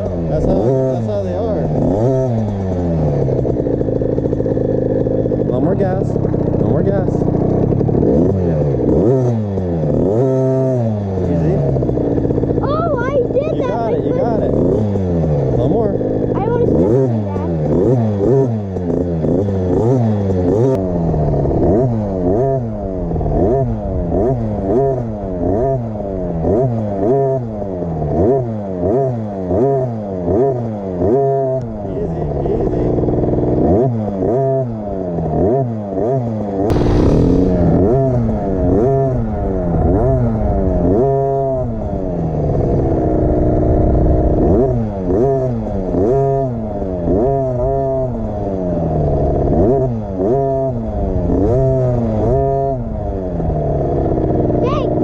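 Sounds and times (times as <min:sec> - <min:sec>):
two-stroke engine revving: 0:00.0 - 0:55.0.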